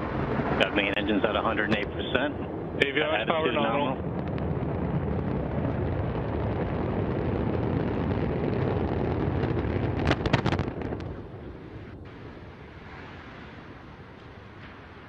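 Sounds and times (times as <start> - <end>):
loud crackling: 0.0 - 15.0
rocket engines roaring: 0.0 - 15.0.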